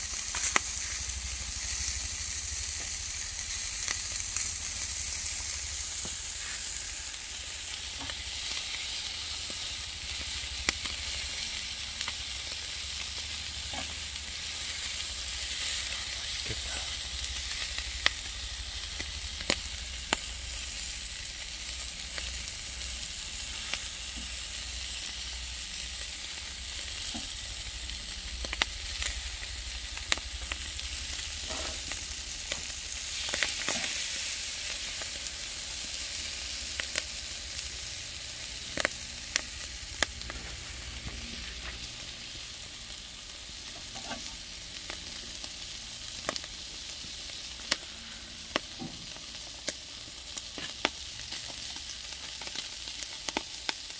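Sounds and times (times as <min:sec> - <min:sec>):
fish sizzling on a grill: 0:00.0 - 0:53.9.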